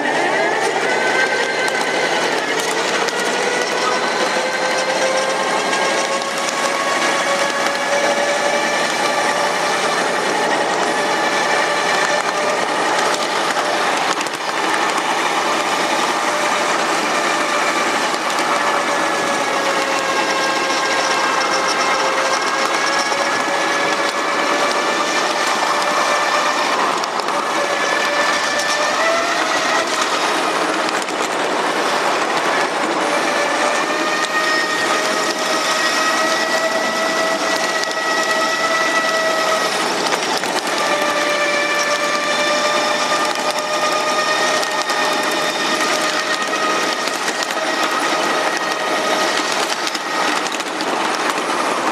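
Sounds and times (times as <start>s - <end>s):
miniature locomotive running with whine: 0.0s - 51.9s.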